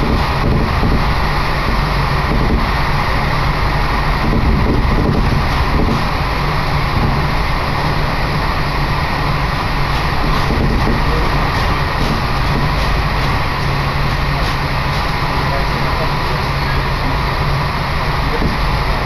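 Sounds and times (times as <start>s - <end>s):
train wheels and motors rumbling: 0.0s - 19.0s.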